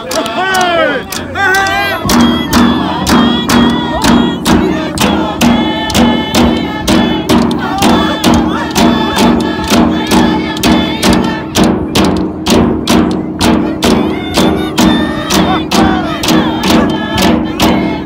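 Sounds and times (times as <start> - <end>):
group of voices singing: 0.0 - 11.9, 13.2 - 18.0
frame drums beating: 0.6 - 18.0.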